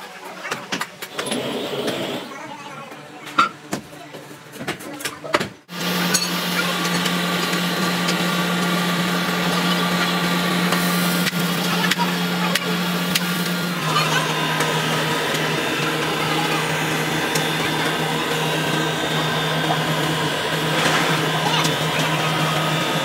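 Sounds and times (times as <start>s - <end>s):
electric air blower motor hum: 1.1s - 2.3s, 5.7s - 23.0s.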